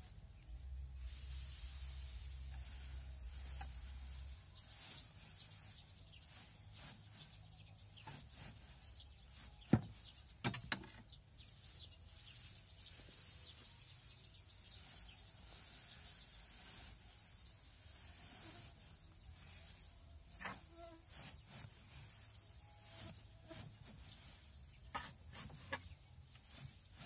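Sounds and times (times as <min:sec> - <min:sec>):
hay rustling: 0:00.0 - 0:10.4, 0:11.2 - 0:27.0
faint bird chirps: 0:00.0 - 0:27.0.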